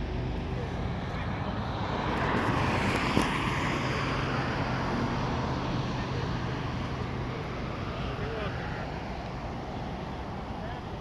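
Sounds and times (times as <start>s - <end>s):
vehicle hum: 0.0s - 11.0s.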